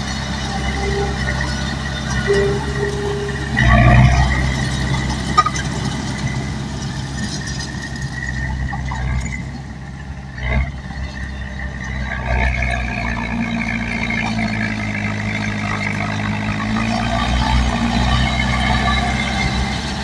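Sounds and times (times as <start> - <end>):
bulldozer diesel engine under load: 0.0 - 20.0.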